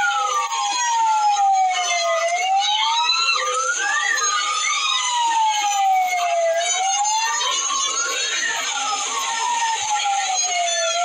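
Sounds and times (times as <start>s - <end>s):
siren wailing: 0.0s - 11.0s.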